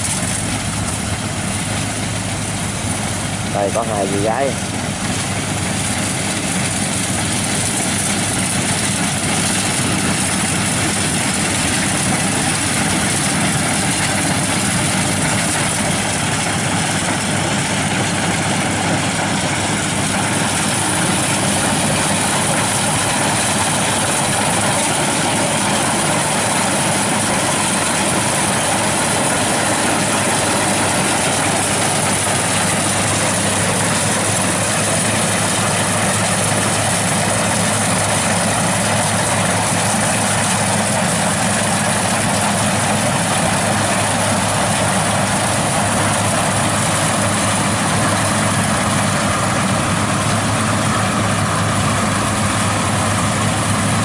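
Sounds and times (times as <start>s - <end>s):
combine harvester engine: 0.0s - 54.0s.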